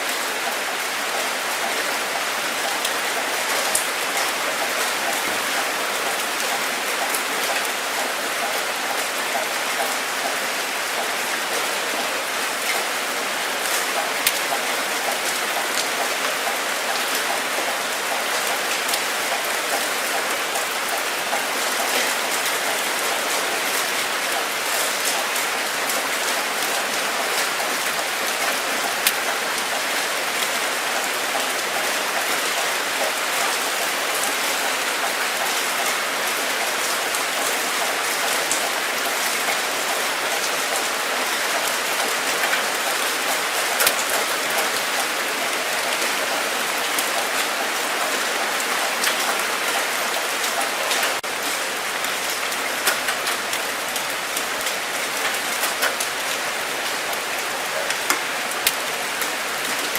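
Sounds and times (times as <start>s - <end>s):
raindrops pattering: 0.0s - 59.9s
steady rain: 0.0s - 59.9s.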